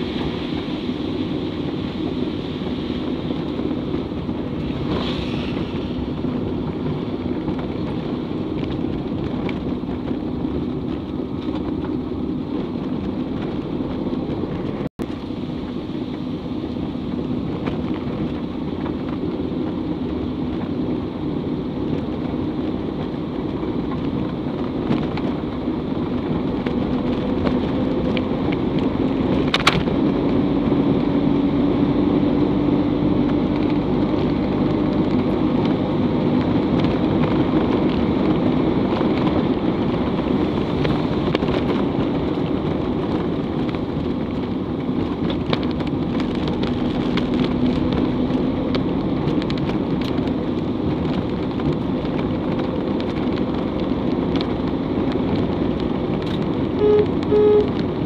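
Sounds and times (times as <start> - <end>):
tyres rumbling on dirt road: 0.0 - 58.0
vehicle engine running: 0.0 - 58.0.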